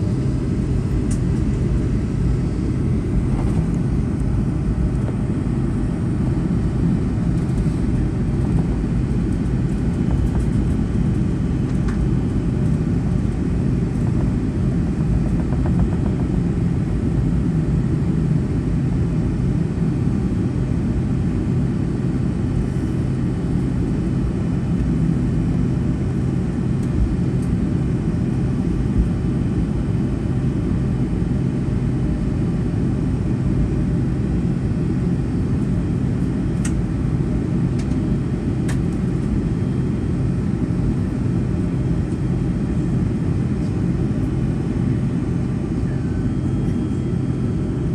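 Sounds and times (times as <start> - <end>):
aircraft cabin low rumble: 0.0 - 47.9.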